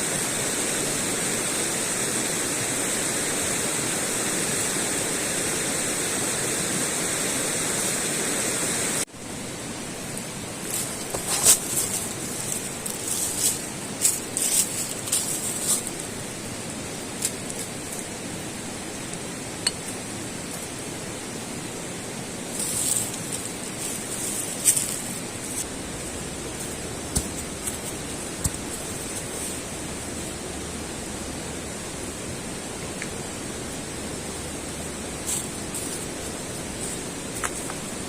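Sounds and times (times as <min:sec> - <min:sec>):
steady rushing hiss: 0:00.0 - 0:38.0.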